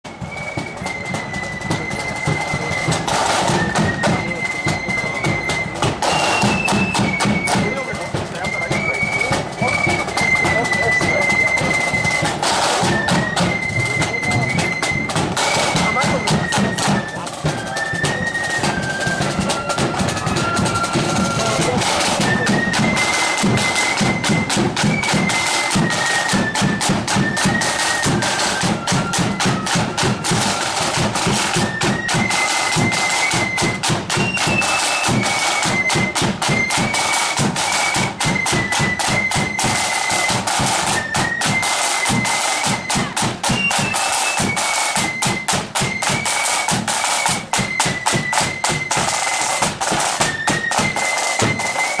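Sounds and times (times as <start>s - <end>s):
flutes playing melody: 0.0s - 52.0s
snare drumming: 0.0s - 52.0s.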